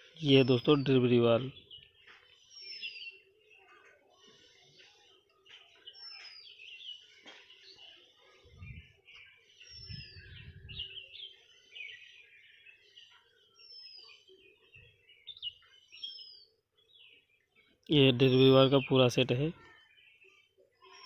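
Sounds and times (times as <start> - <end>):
birds chirping and singing: 0.0 - 21.0.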